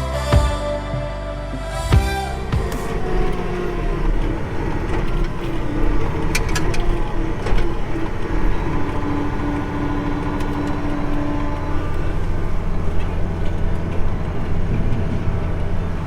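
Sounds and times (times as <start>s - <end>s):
tractor diesel engine: 1.5s - 16.0s.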